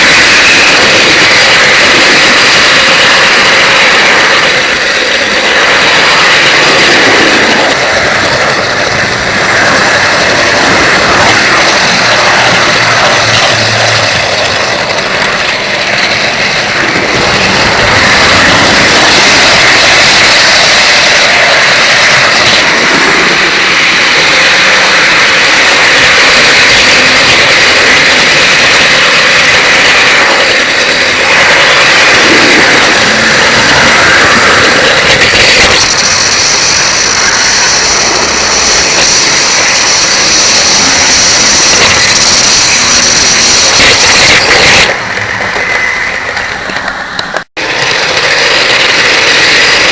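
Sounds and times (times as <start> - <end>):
model train running on track: 0.0 - 49.9.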